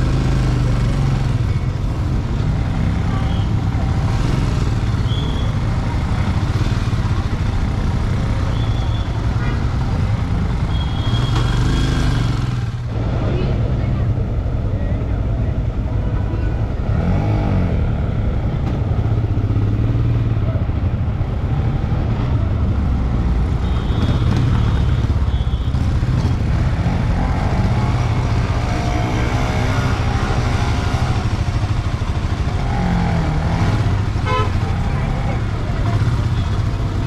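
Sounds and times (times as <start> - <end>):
motorcycle engine rumbling: 0.0 - 37.0.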